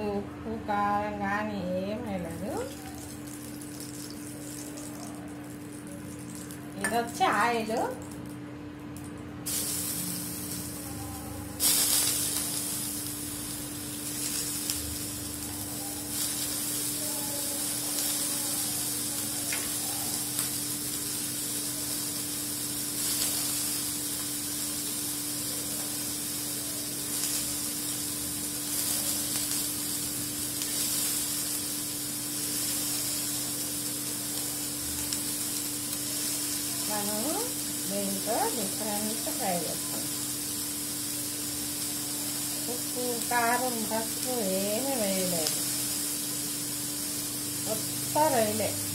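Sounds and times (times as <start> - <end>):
prawns sizzling in oil: 1.5 - 48.9.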